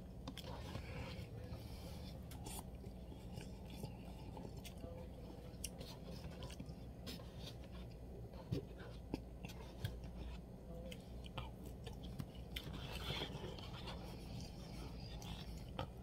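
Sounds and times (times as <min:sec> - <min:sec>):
low steady hum: 0:00.0 - 0:16.0
person chewing: 0:00.2 - 0:16.0.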